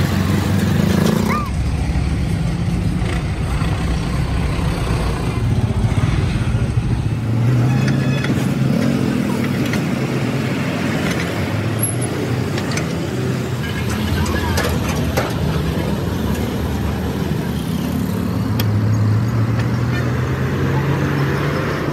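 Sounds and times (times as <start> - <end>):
road traffic engines rumbling: 0.0 - 21.9.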